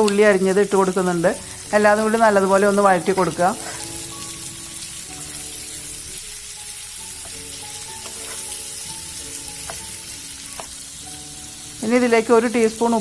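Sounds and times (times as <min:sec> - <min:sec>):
onions sizzling in a pan: 0:00.0 - 0:13.0
soft background music: 0:00.0 - 0:13.0.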